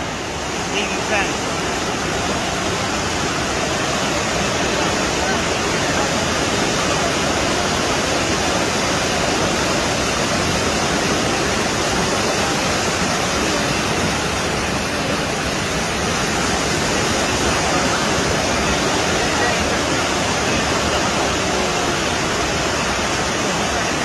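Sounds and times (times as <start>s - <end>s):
flood water rushing: 0.0s - 24.0s.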